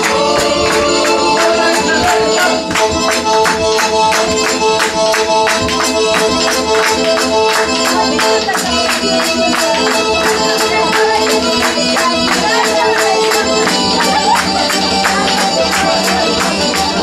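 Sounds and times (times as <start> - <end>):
lively dance music: 0.0 - 17.0
people clapping along: 0.0 - 17.0.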